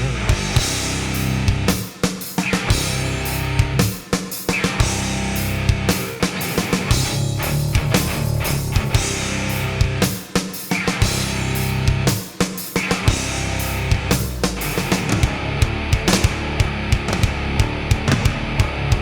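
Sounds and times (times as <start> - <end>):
drum kit: 0.0 - 19.0
heavy guitars: 0.0 - 19.0.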